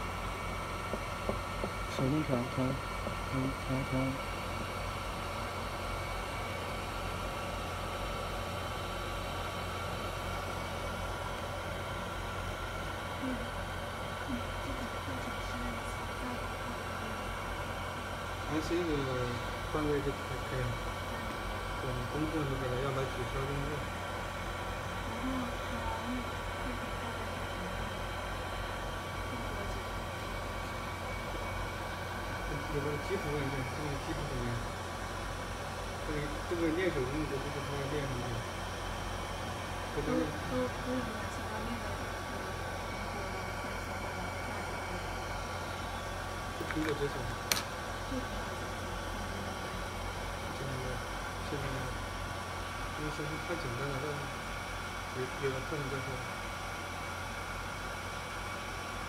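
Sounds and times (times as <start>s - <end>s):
faint whine: 0.0s - 59.0s
hot-air blower and fans whirring: 0.0s - 59.0s.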